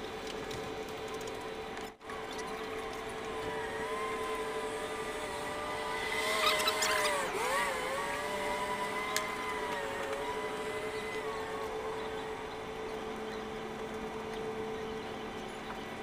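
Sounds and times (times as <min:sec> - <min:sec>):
steady hum: 0:00.0 - 0:16.0
engine running: 0:01.8 - 0:16.0.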